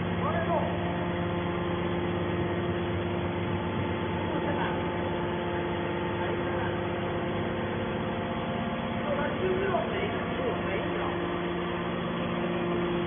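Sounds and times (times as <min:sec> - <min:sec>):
hydraulic power unit humming: 0:00.0 - 0:13.0.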